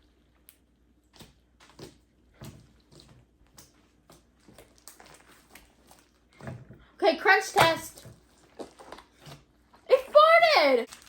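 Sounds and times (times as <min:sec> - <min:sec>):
slime squelching and popping: 0:00.0 - 0:06.9, 0:07.6 - 0:11.0.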